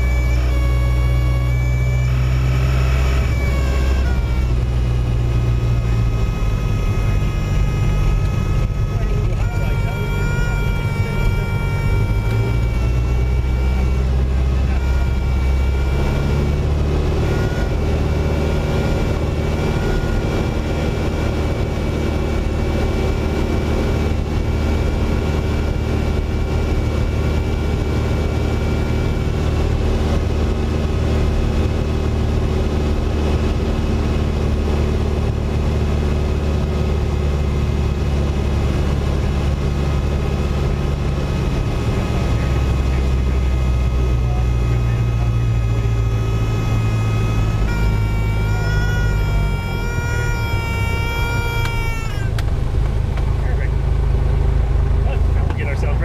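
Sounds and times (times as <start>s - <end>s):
plane engine and propeller drone: 0.0s - 56.0s.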